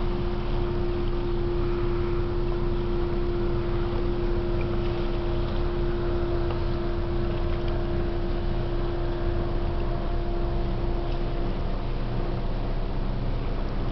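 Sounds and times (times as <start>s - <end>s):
ship engines droning hum: 0.0s - 13.9s.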